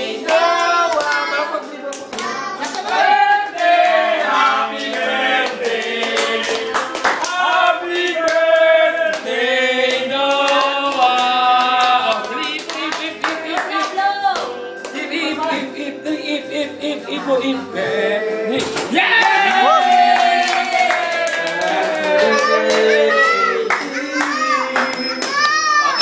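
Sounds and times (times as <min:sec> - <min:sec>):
family voices singing together: 0:00.0 - 0:26.0
hands clapping: 0:00.2 - 0:04.0, 0:04.8 - 0:08.5, 0:09.1 - 0:15.1, 0:18.6 - 0:26.0.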